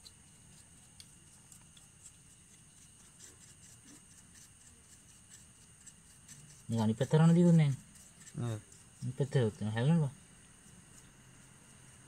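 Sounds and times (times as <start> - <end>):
faint high-pitched hum: 0.0 - 12.0.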